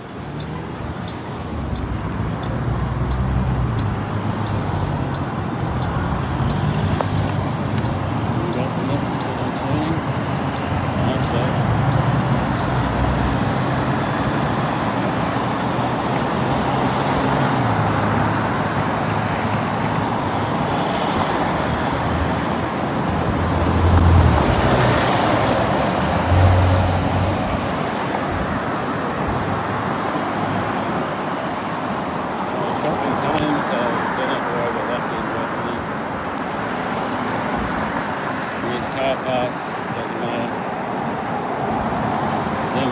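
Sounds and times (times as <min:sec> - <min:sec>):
road traffic: 0:00.0 - 0:42.9
vehicles passing: 0:00.0 - 0:42.9.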